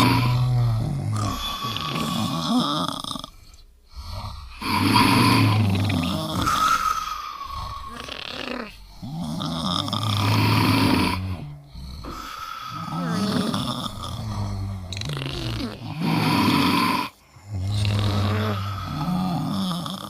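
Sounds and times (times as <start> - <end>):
people snoring: 0.0 - 20.0.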